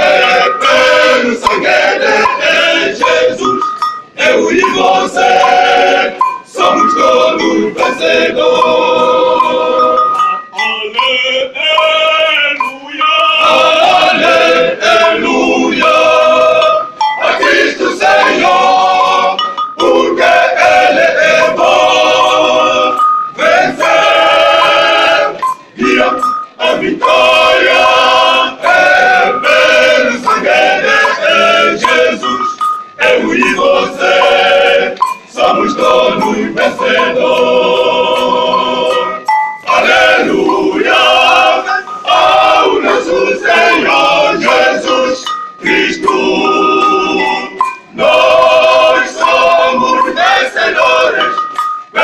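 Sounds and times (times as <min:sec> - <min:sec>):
men's choir singing a hymn: 0:00.0 - 0:52.0.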